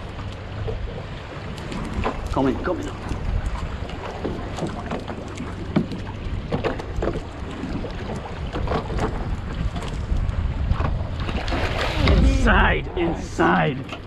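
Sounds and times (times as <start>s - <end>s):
wind buffeting microphone: 0.0s - 4.8s, 5.6s - 13.4s.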